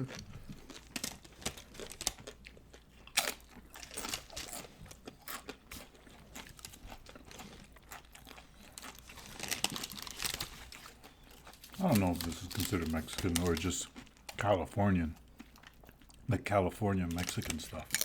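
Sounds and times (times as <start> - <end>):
tortilla chips crunching: 0.0 - 16.2, 17.1 - 18.0.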